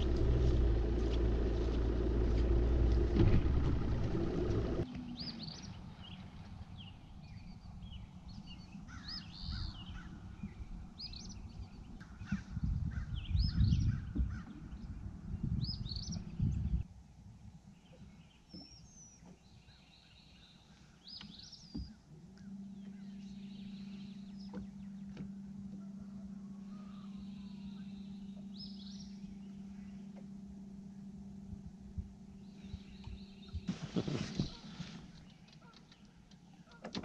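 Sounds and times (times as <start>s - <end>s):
low rumbling noise: 0.0s - 18.3s, 21.9s - 35.5s
steady low hum: 0.0s - 36.8s
birds chirping and calling: 3.5s - 16.8s, 17.8s - 31.2s, 32.3s - 36.9s.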